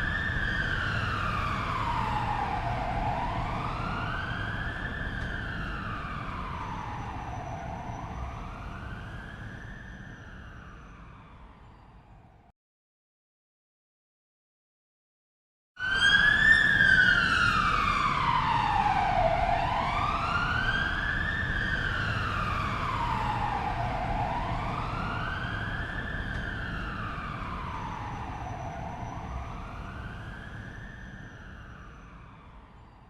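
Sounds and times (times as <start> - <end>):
police siren wailing: 0.0 - 11.6, 15.8 - 33.0.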